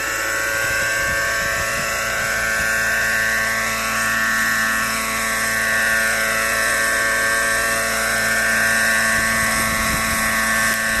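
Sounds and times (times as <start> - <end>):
model helicopter whine: 0.0 - 11.0.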